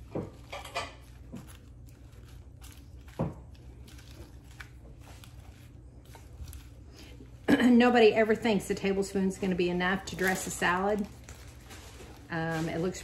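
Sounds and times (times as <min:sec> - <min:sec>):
fork tossing salad leaves: 0:00.0 - 0:07.4, 0:09.4 - 0:13.0.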